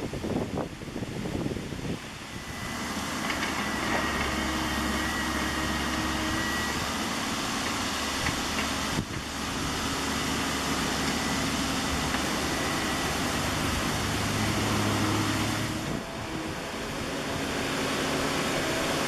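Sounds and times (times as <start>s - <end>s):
noisy hiss: 0.0s - 19.0s
heavy diesel engine running: 0.8s - 19.0s.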